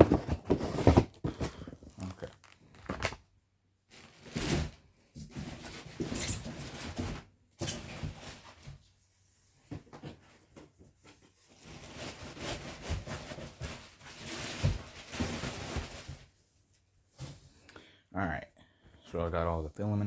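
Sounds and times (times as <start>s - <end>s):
cardboard rustling and scraping: 0.0s - 3.2s, 3.9s - 17.6s.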